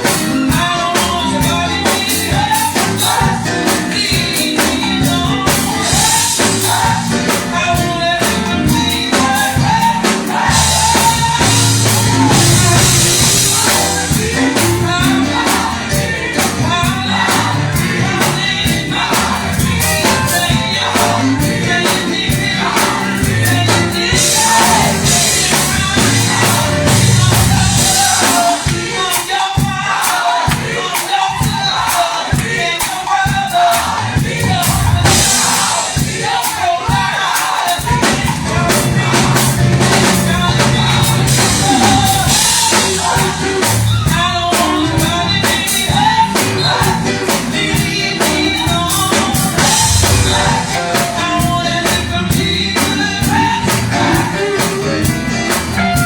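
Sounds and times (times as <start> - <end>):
bass guitar: 0.0 - 28.8, 33.6 - 36.2, 37.8 - 56.0
drum kit: 0.0 - 56.0
gospel choir singing: 0.0 - 56.0.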